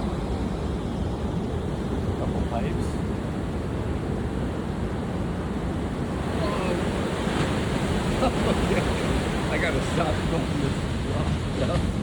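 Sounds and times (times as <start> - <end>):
ocean waves breaking: 0.0 - 12.0
wind buffeting microphone: 0.0 - 12.0.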